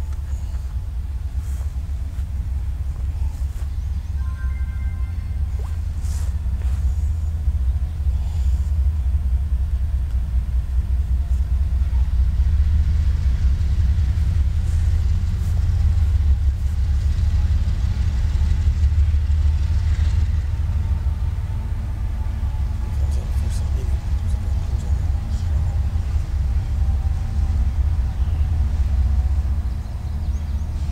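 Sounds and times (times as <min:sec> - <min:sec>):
diesel locomotive rumbling: 0:00.0 - 0:30.9.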